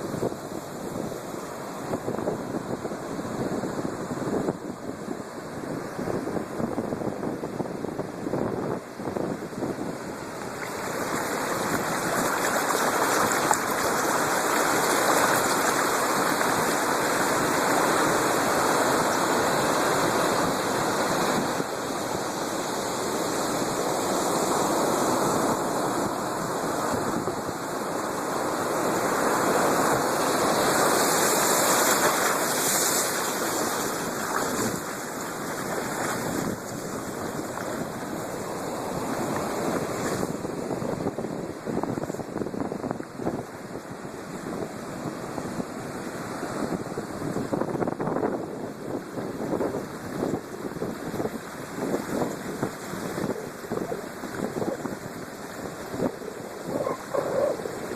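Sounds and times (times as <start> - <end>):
waves breaking: 8.9 - 57.9.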